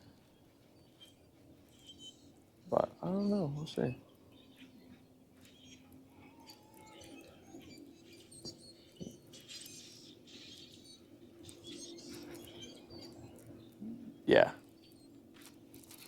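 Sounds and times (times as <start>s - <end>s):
faint birds chirping: 0.0s - 16.0s
faint low hum: 0.0s - 16.0s.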